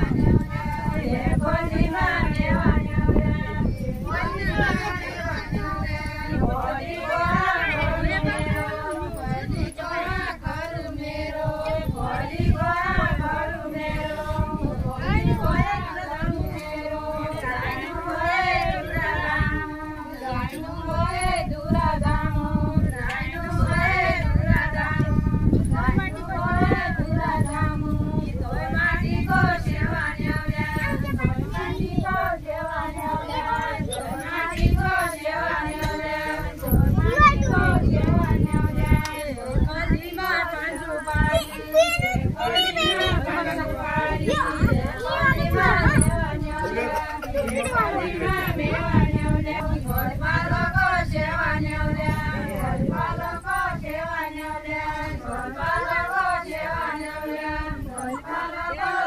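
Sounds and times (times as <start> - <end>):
crowd and outdoor rumble: 0.0 - 59.0
women singing in chorus: 0.0 - 59.0.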